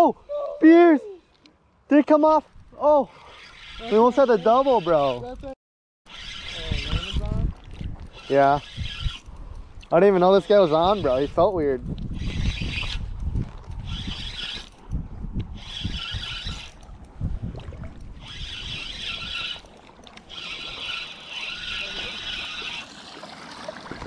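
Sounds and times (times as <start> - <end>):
fishing reel whirring: 3.0 - 17.2, 17.8 - 23.0.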